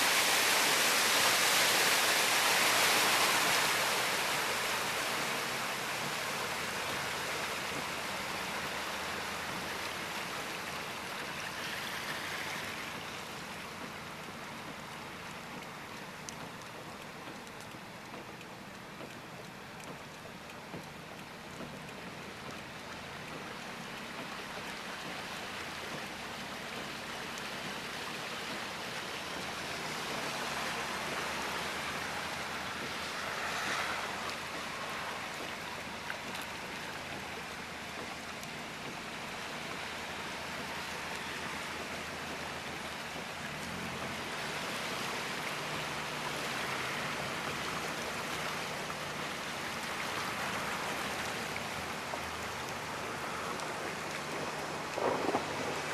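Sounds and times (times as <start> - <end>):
heavy rain: 0.0 - 55.9
rushing floodwater: 0.0 - 55.9.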